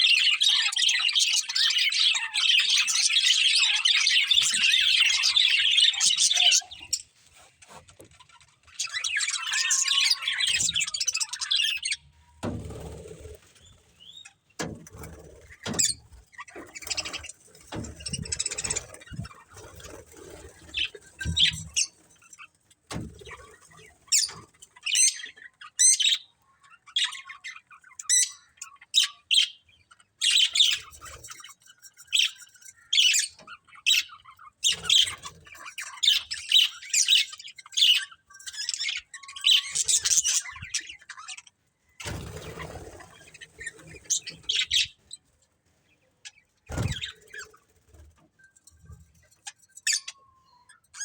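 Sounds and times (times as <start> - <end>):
budgerigars chirping and squawking: 0.0 - 51.0.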